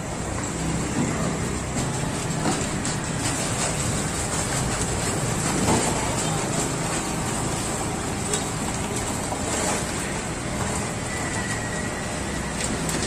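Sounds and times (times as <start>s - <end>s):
sugarcane press grinding: 0.0s - 13.0s.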